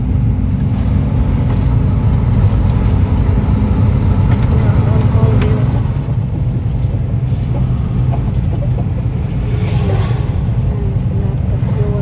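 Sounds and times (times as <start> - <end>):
heavy truck engine and road drone: 0.0 - 12.0.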